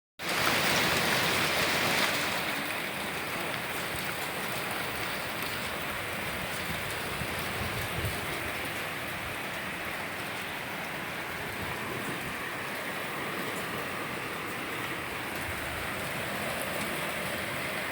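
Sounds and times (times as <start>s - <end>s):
hail hitting surfaces: 0.2s - 17.9s.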